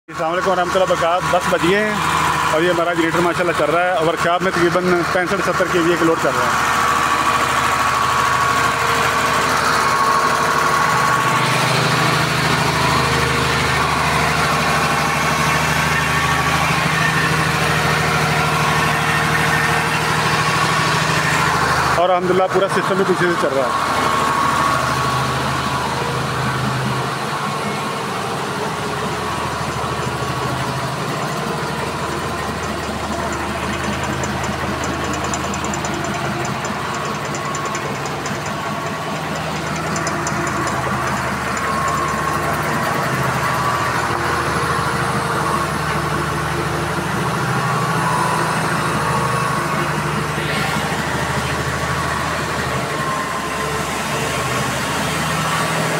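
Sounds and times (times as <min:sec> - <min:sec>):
generator engine running: 0:00.1 - 0:55.9.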